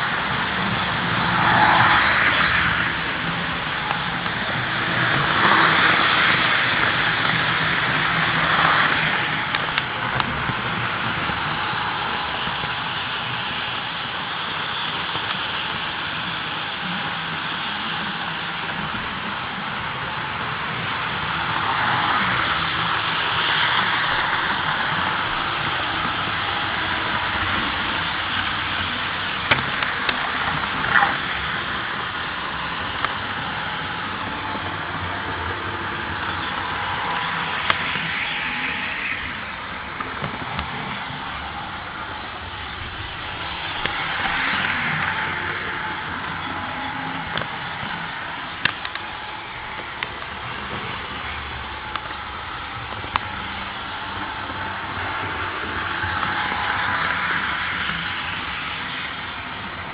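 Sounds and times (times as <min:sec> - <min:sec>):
model train rattling on track: 0:00.0 - 0:59.9.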